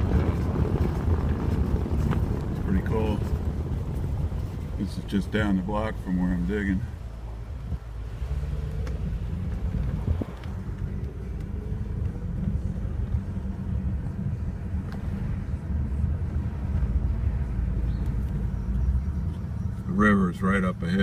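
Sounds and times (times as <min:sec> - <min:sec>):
low street rumble: 0:00.0 - 0:21.0.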